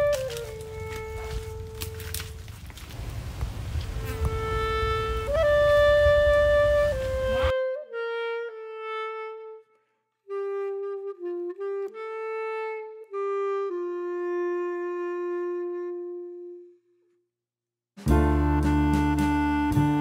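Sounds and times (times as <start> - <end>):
solo wind instrument melody: 0.0 - 2.8, 3.6 - 17.2, 18.0 - 20.0.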